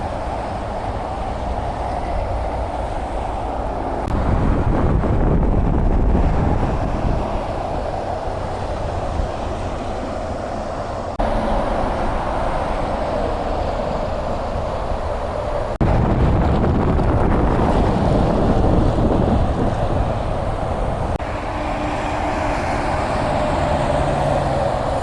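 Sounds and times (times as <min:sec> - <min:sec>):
highway traffic: 0:00.0 - 0:25.0.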